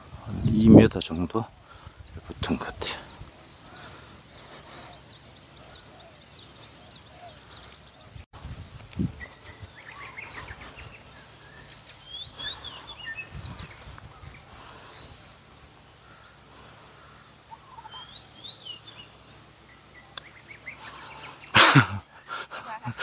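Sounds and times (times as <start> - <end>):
birds chirping and calling: 0.0 - 23.0
faint open-air background noise: 0.0 - 23.0.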